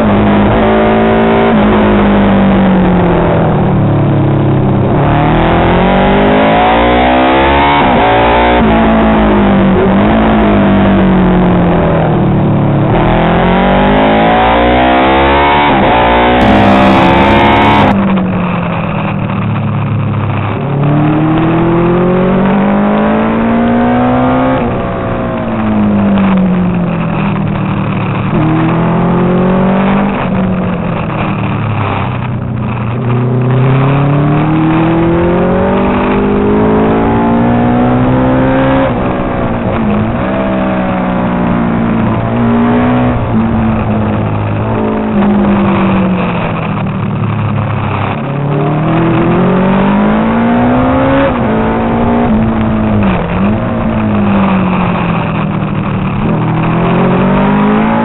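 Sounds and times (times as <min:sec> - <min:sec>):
heavy rush of noise: 0:00.0 - 0:58.0
racing motorcycle engine revving: 0:00.0 - 0:58.0.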